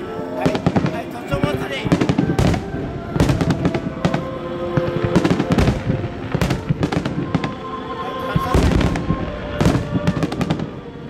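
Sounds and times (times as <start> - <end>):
fireworks bursting with sharp bangs: 0.0 - 11.0
music with sustained notes: 0.0 - 11.0.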